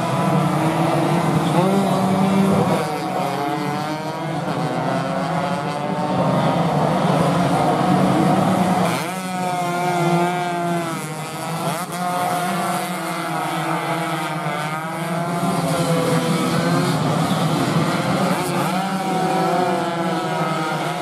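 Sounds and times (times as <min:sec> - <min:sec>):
racing motorcycles accelerating: 0:00.0 - 0:21.0.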